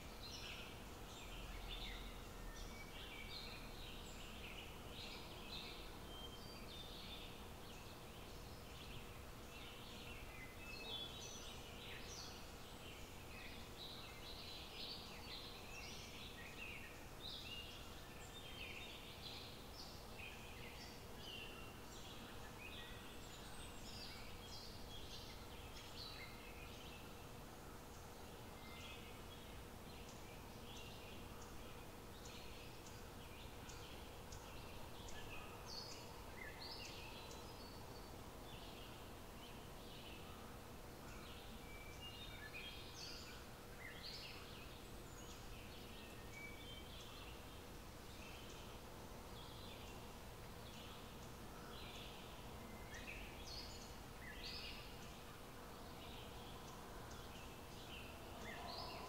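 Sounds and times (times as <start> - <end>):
faint birds chirping: 0.0 - 59.0
faint steady hum: 0.0 - 59.0
low steady background hiss: 0.0 - 59.0.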